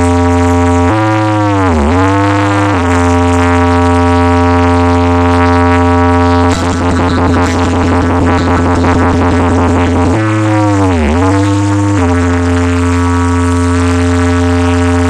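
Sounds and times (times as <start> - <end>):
loud electronic drone with bass: 0.0 - 15.0
pulsing electronic beat: 0.0 - 15.0.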